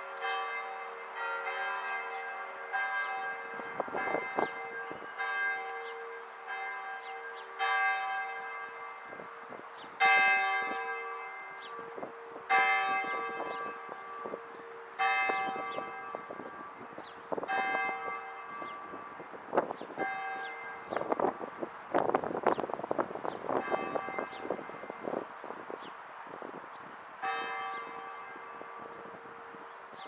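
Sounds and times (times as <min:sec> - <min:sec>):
church bell tolling: 0:00.0 - 0:21.5, 0:23.6 - 0:25.2, 0:27.2 - 0:30.0.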